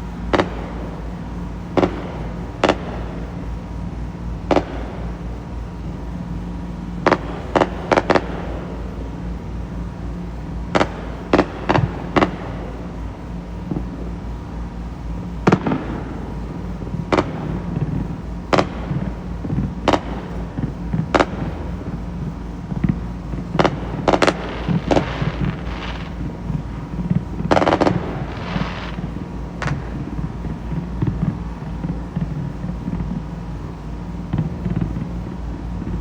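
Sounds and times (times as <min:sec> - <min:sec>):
fireworks booming: 0:00.0 - 0:36.0
fireworks crackling: 0:07.1 - 0:36.0.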